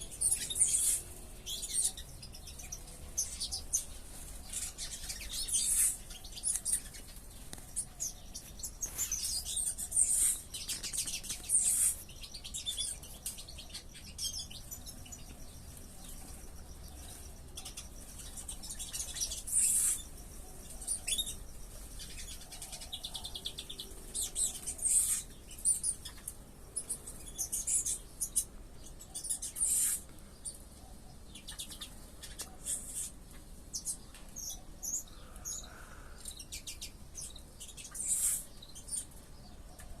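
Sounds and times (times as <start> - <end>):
flock of small birds chirping: 0.0 - 40.0.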